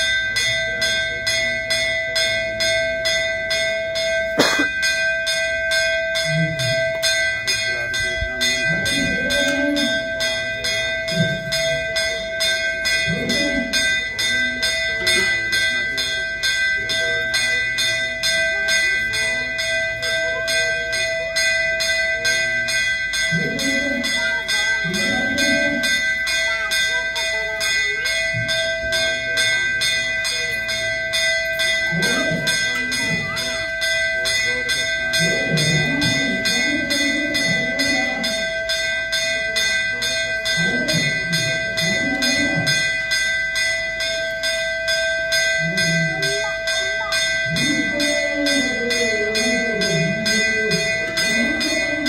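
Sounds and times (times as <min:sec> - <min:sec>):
temple bell ringing: 0:00.0 - 0:52.0.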